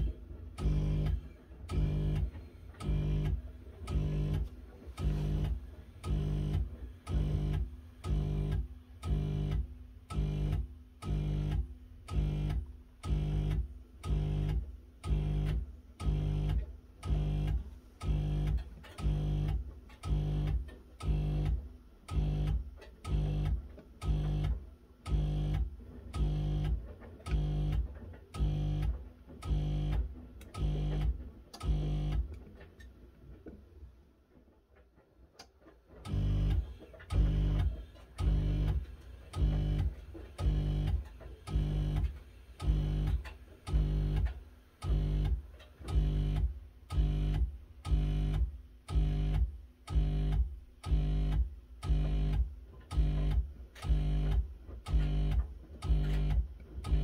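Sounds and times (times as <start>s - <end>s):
washing machine pulsing hum: 0.0s - 57.0s.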